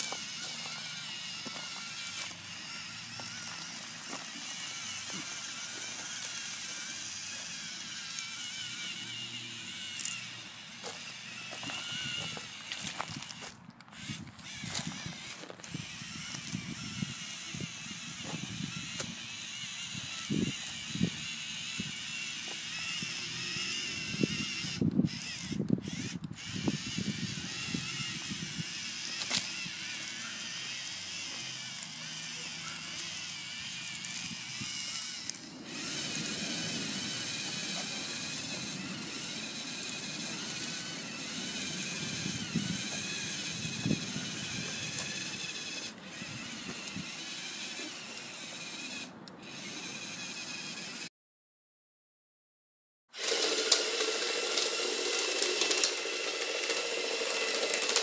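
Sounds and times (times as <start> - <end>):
robot motors clicking and ratcheting: 0.0 - 51.1, 53.2 - 58.0.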